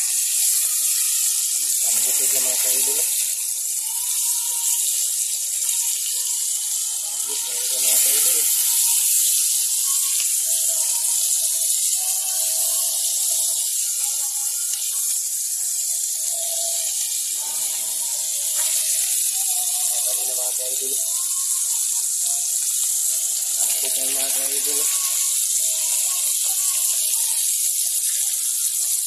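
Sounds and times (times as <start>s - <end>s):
fish frying in hot oil: 0.0s - 29.0s.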